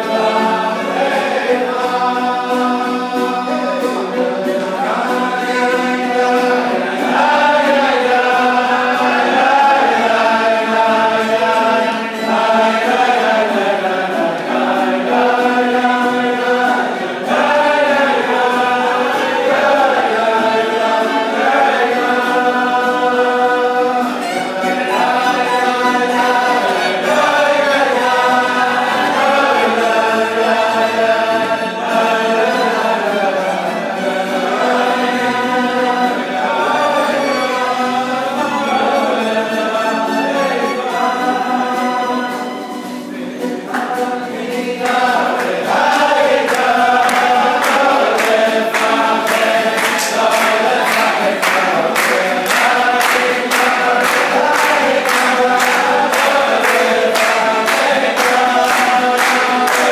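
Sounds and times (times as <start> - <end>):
guitar: 0.0 - 59.9
men singing together: 0.0 - 59.9
violin: 0.0 - 59.9.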